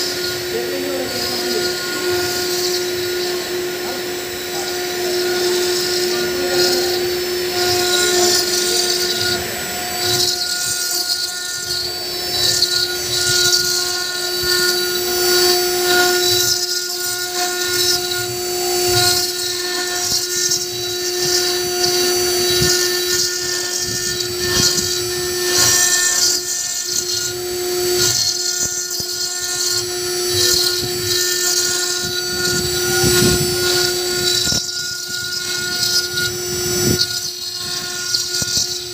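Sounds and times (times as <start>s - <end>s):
router spindle whining: 0.0s - 38.9s
stone cutting hiss: 0.0s - 38.9s.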